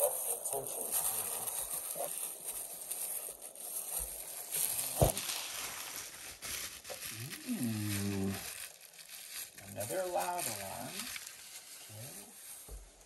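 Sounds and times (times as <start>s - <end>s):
bubble wrap rustling and crinkling: 0.0s - 13.0s.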